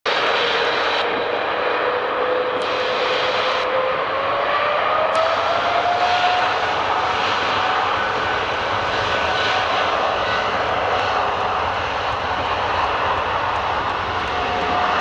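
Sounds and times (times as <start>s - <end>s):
jet engine fan whine: 0.1s - 15.0s
jet engine roar: 0.1s - 15.0s.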